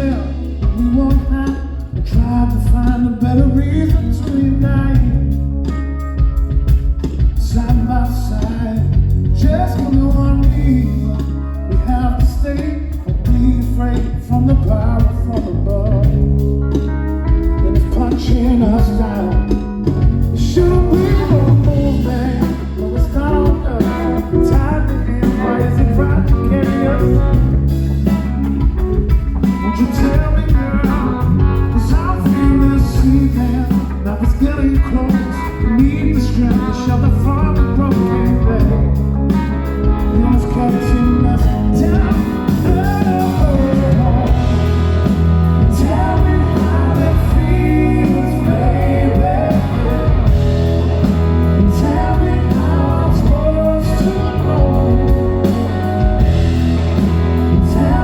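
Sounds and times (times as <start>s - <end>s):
blues-rock band playing: 0.0s - 58.0s
person singing: 0.0s - 58.0s.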